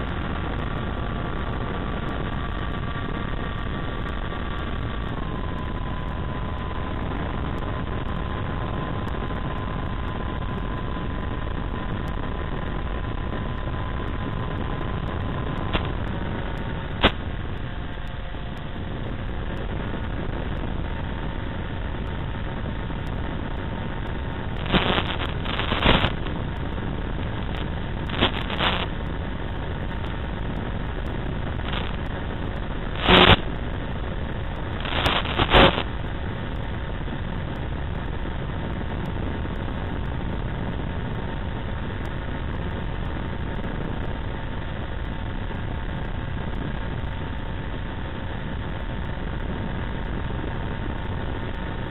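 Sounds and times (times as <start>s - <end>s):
crackling static bursts: 0.0s - 51.9s
rushing air noise: 0.0s - 51.9s.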